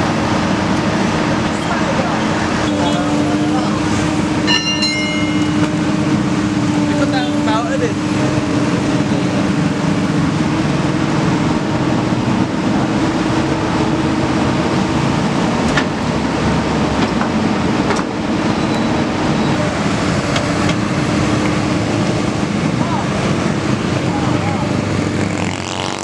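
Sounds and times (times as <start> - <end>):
excavator diesel engine running: 0.0 - 25.3.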